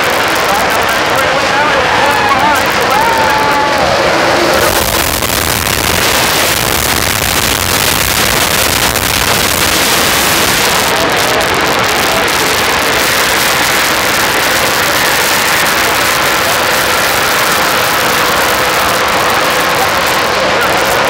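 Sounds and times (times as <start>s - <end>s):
race car engines at full throttle: 0.0s - 21.0s.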